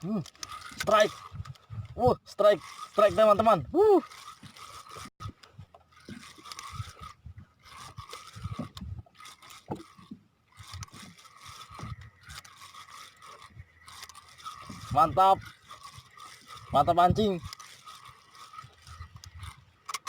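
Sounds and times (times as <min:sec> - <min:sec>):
fishing tackle scrapes and clicks: 0:00.0 - 0:20.0.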